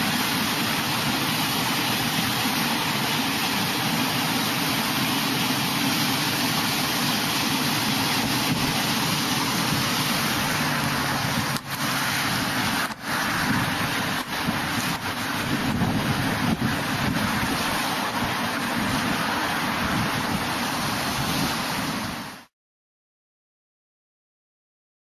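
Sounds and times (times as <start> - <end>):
rushing flood torrent roar: 0.0 - 22.5.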